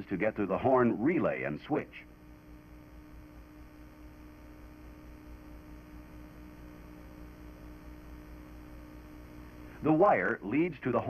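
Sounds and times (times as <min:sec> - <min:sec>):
background hiss: 0:00.0 - 0:11.0
faint electrical hum: 0:00.0 - 0:11.0.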